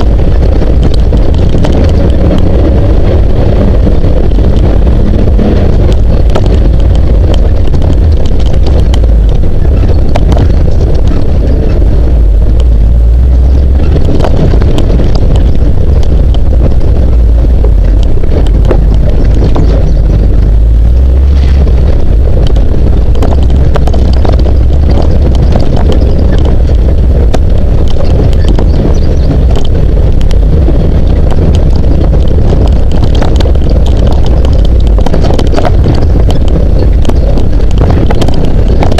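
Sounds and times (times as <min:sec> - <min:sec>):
knocks and rattles: 0:00.0 - 0:38.9
low engine rumble: 0:00.0 - 0:38.9
wind buffeting microphone: 0:00.0 - 0:38.9.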